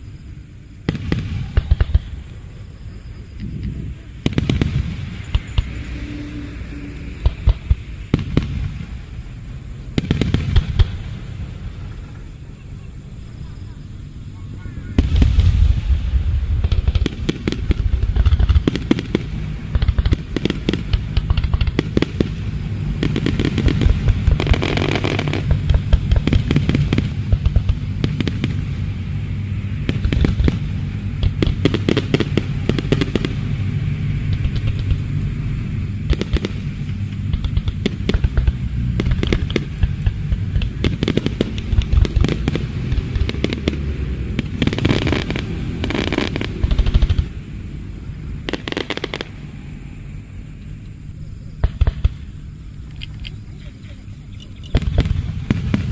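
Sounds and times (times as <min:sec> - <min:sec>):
fireworks bangs and crackling: 0:00.0 - 0:55.9
low rolling rumble: 0:00.0 - 0:55.9.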